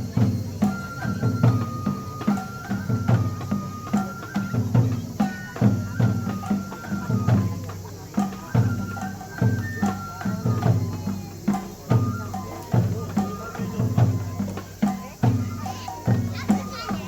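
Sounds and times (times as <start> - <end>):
bamboo flute melody: 0.0 - 17.0
taiko drums: 0.0 - 17.0.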